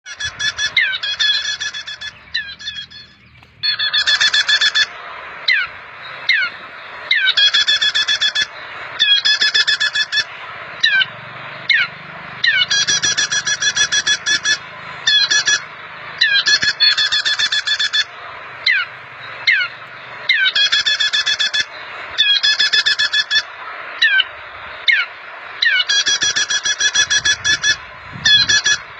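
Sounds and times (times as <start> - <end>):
bird down-slurred chips: 0.1 - 28.9
bird trilled calls: 0.1 - 28.9.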